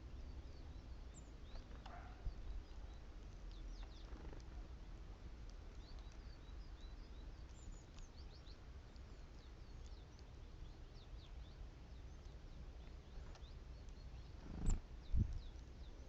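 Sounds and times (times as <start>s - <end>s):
birds chirping: 0.0s - 16.0s
faint low rumble: 0.0s - 16.0s.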